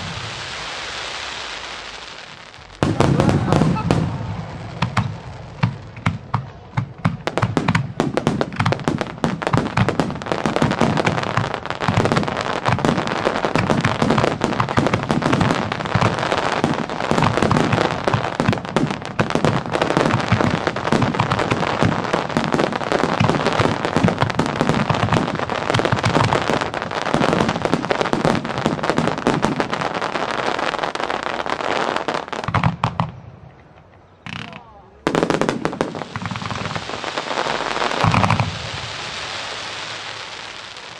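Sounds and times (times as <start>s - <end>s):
aerial firework shells bursting: 2.6s - 29.8s, 34.3s - 40.0s.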